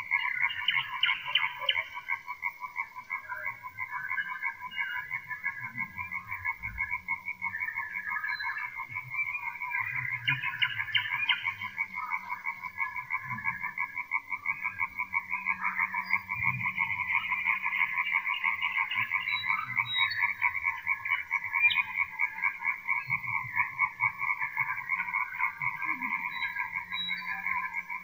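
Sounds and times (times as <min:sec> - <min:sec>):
chorus of frogs croaking: 0:00.0 - 0:28.0.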